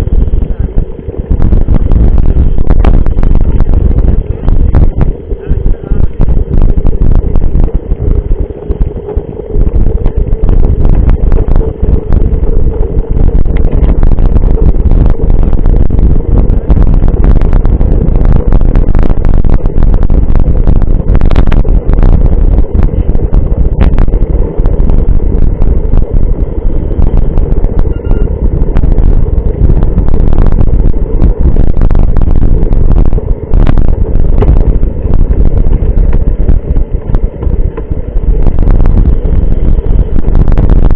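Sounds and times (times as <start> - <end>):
road rumble: 0.0 - 40.9
wind buffeting microphone: 0.0 - 40.9.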